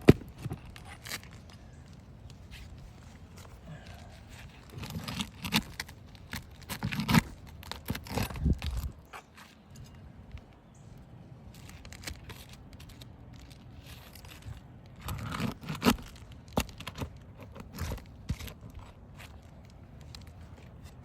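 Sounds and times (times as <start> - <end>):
roof shingle scraping and tearing: 0.0 - 10.0, 11.5 - 21.0.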